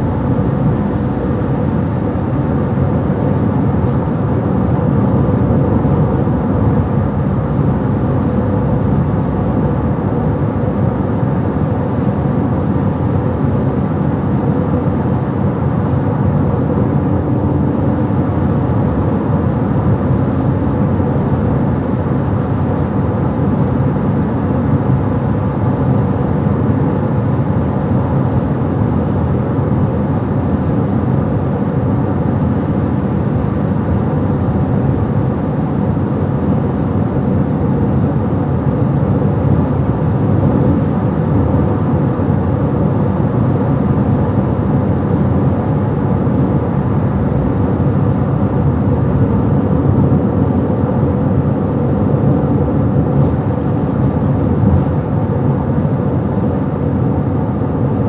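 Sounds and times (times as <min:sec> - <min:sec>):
car engine noise: 0:00.0 - 0:58.0.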